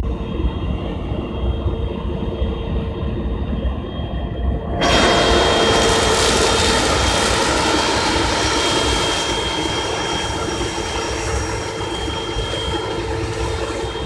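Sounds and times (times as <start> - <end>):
combine harvester engine drone: 0.0 - 14.0
high whine: 0.0 - 14.0.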